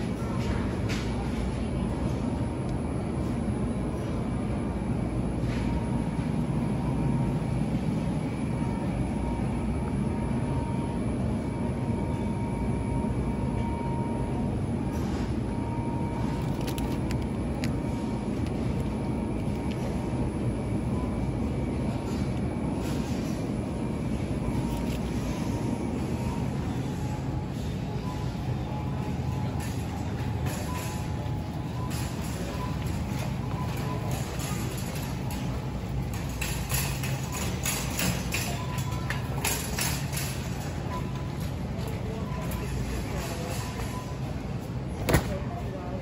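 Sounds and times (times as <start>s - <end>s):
faint constant whine: 0.0s - 46.0s
supermarket background rumble: 0.0s - 46.0s.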